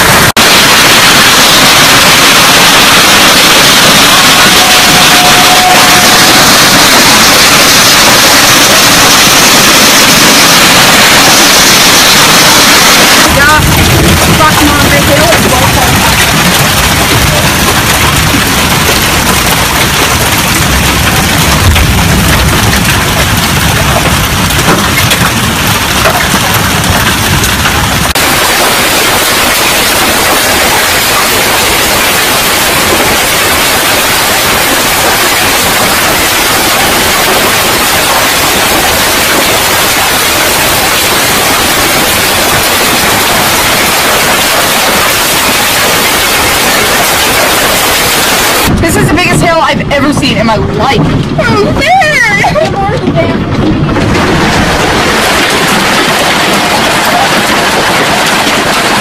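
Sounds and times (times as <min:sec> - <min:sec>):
hail clattering on roof: 0:00.0 - 0:59.0
deep rumble: 0:01.6 - 0:59.0.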